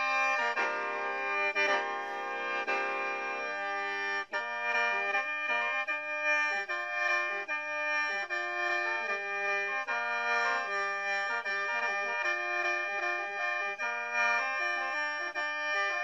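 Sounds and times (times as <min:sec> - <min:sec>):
bamboo mouth organ folk music: 0:00.0 - 0:16.0.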